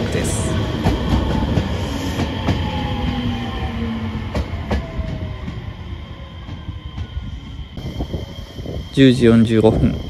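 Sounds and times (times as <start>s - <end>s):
electric train slowing to stop: 0.0s - 10.0s.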